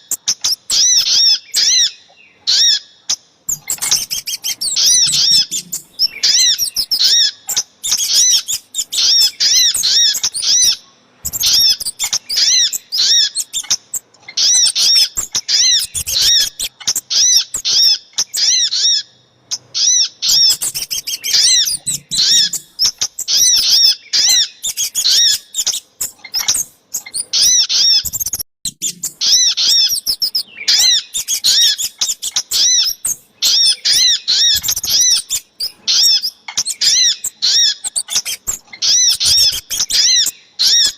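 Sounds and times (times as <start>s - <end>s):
songbird chirping calls: 0.0s - 40.9s.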